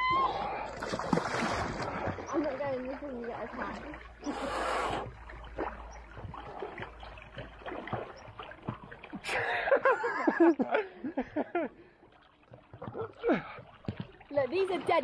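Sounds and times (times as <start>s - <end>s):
water splashing and lapping: 0.0s - 15.0s.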